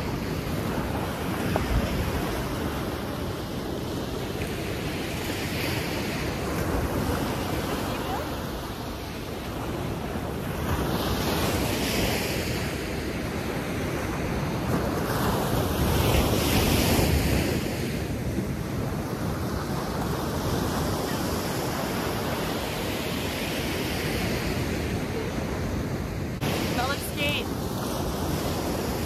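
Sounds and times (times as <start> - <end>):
ocean surf breaking: 0.0 - 29.0.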